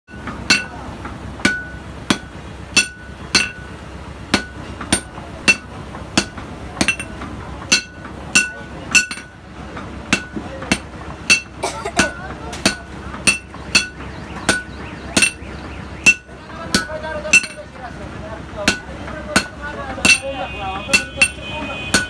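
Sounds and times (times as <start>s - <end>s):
hammer striking metal on anvil: 0.1s - 9.4s, 10.1s - 17.7s, 18.6s - 22.0s.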